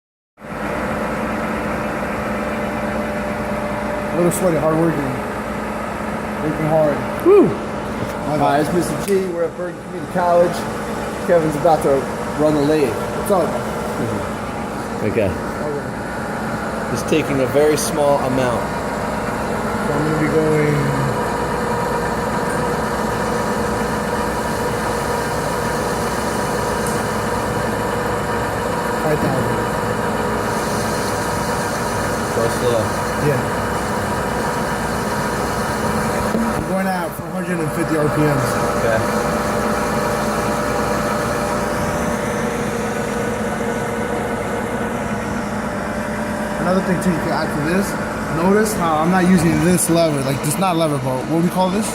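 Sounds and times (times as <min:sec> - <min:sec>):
metal lathe humming: 0:00.5 - 0:51.9.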